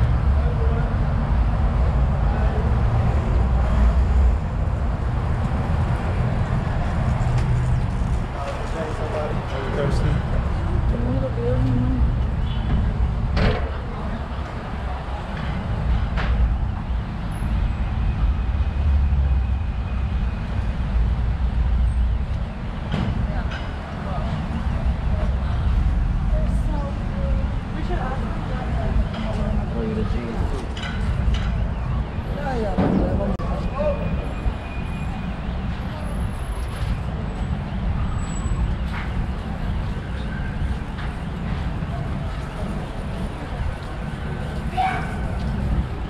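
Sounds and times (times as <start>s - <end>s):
street noise: 0.0s - 46.0s
traffic rumble: 0.0s - 46.0s
vehicles passing: 0.0s - 46.0s.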